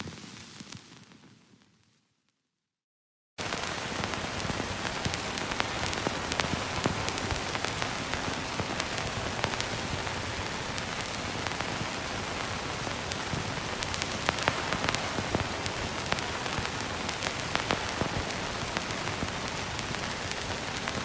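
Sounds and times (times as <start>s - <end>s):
crackles and pops: 0.0s - 2.4s, 3.4s - 21.0s
steady film hiss: 3.4s - 21.0s.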